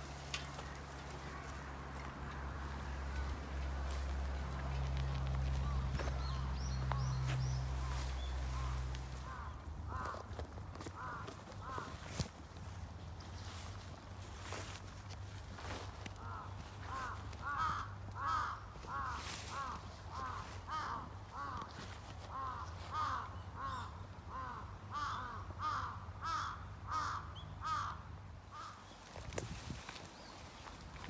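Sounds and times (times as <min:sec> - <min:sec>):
footsteps through tall grass: 0:00.0 - 0:23.3, 0:29.0 - 0:31.0
crows cawing: 0:00.4 - 0:12.3, 0:15.5 - 0:29.0.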